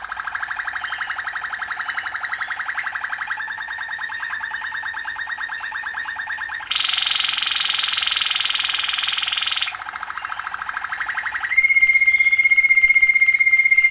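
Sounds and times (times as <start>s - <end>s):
canary singing trills: 0.3s - 13.9s.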